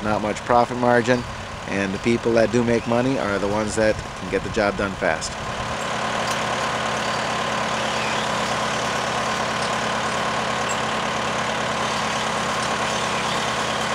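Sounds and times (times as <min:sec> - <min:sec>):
engine humming steadily: 0:00.0 - 0:13.9.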